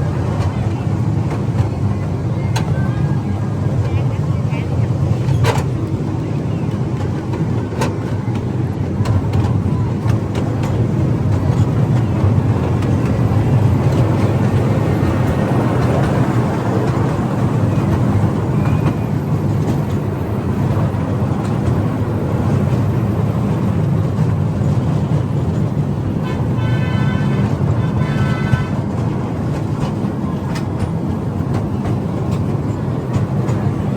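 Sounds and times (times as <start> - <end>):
ride-on train rumbling: 0.0 - 33.9.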